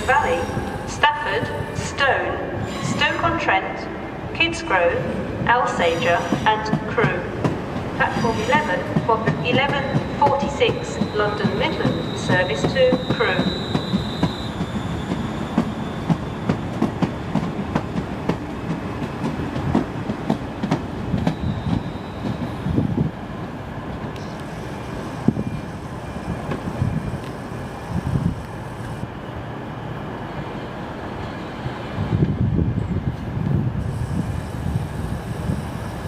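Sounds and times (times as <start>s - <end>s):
low train rumble: 0.0s - 36.0s.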